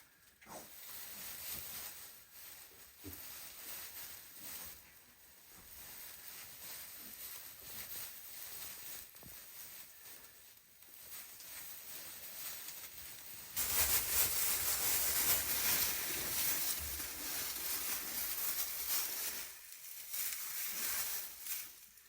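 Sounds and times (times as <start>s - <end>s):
straw rustling: 0.5s - 22.0s.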